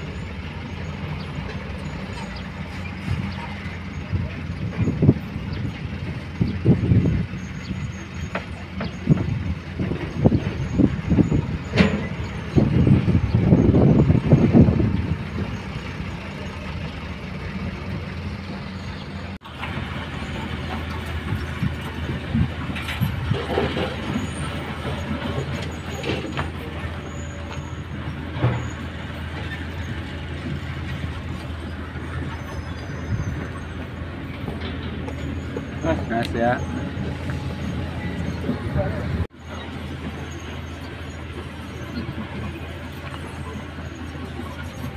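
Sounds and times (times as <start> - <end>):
diesel engines rumbling: 0.0 - 44.9
truck knocking and rattling: 0.0 - 44.9.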